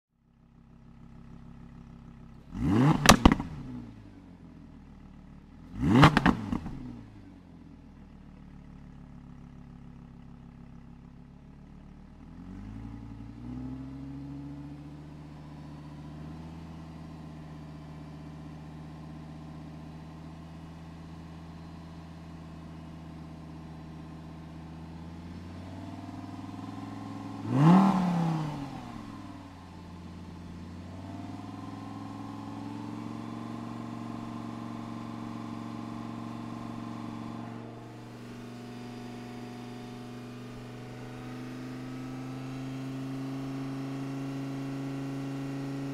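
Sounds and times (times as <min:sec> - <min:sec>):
car engine idling and revving: 0:00.1 - 0:45.9.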